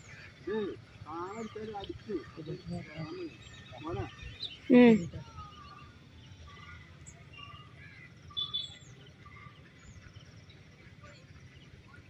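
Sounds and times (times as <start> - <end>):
birds chirping: 0.0 - 12.0
low steady background noise: 0.0 - 12.0.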